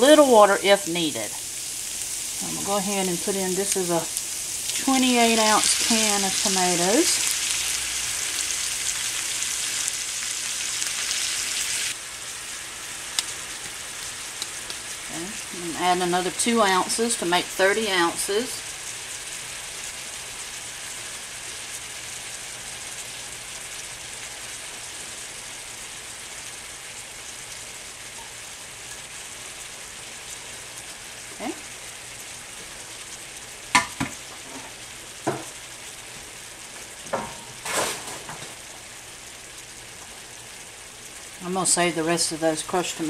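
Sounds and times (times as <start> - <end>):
meat sizzling in a skillet: 0.0 - 43.0.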